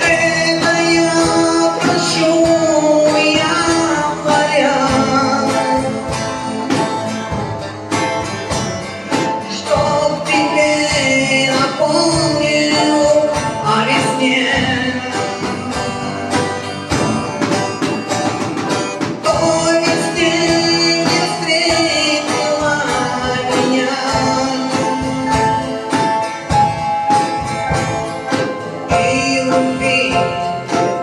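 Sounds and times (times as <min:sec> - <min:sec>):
electric guitar: 0:00.0 - 0:31.0
live rock band: 0:00.0 - 0:31.0.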